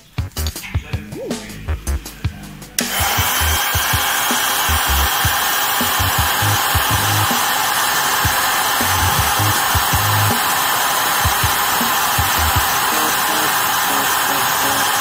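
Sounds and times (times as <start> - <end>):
heat gun blowing: 2.8 - 15.0.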